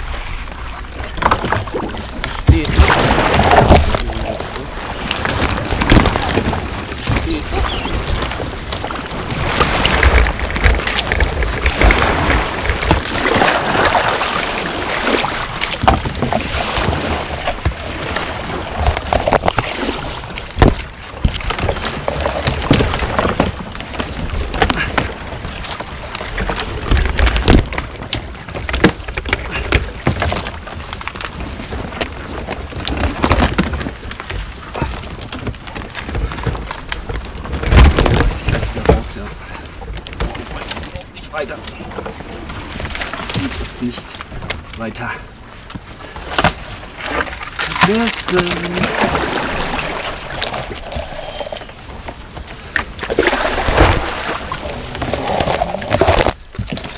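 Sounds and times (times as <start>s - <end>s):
paddle splashing water: 0.0s - 56.9s
wind rumbling on microphone: 0.0s - 56.9s.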